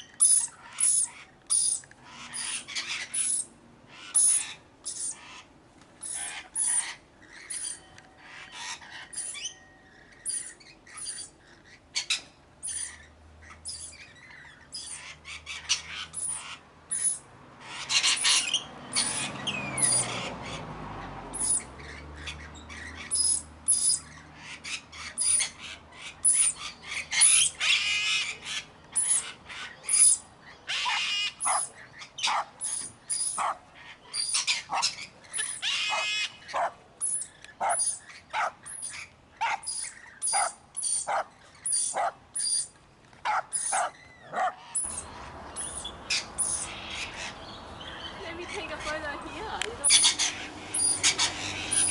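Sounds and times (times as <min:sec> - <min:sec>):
parrots screeching: 0:00.0 - 0:20.7, 0:21.3 - 0:42.7, 0:43.3 - 0:49.0, 0:49.8 - 0:51.9
parrots squawking: 0:00.0 - 0:20.7, 0:21.3 - 0:51.9.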